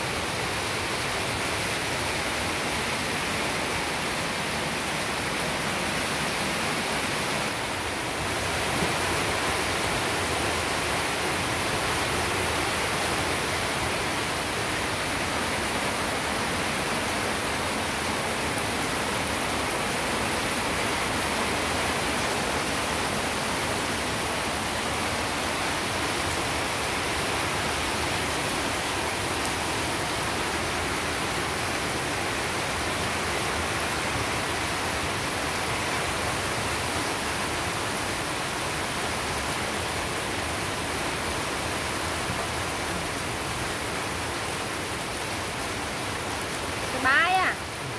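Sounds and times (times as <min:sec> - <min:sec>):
heavy rain on wet ground: 0:00.0 - 0:47.9.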